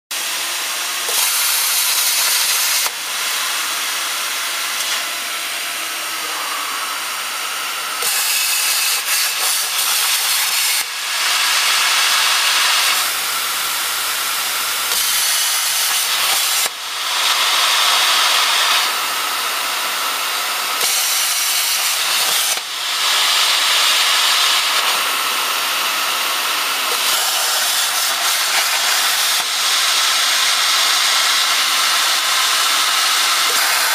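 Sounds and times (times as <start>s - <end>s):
plasma cutter torch hissing: 0.2s - 5.0s, 8.0s - 33.9s.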